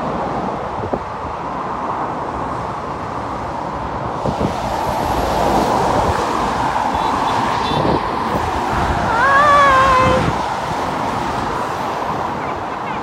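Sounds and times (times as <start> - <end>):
traffic rushing past: 0.0 - 13.0.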